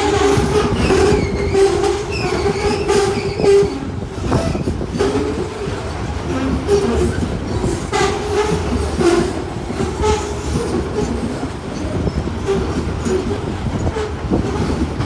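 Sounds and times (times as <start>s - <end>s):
freight train rumbling past: 0.0s - 15.0s
train wheel clacks: 0.0s - 15.0s.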